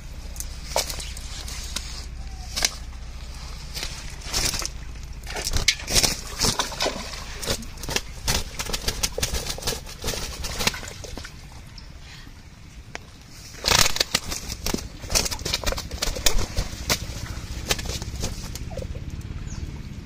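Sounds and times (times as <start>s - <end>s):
fish flapping on wet grass: 0.4s - 11.4s, 13.3s - 18.9s.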